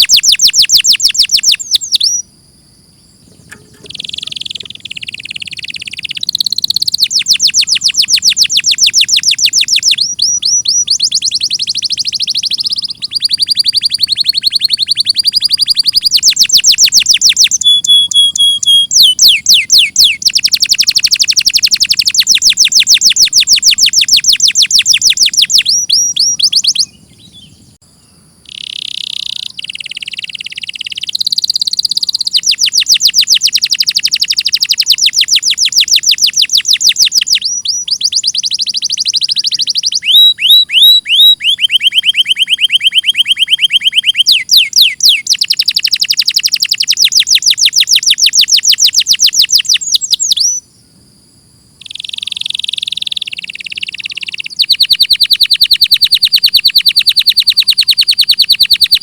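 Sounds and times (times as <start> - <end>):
canary singing trills: 0.0 - 50.7, 51.8 - 59.0.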